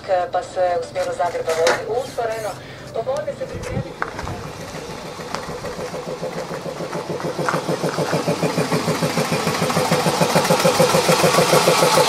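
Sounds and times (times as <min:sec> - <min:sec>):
air compressor pulsing: 0:02.1 - 0:12.0.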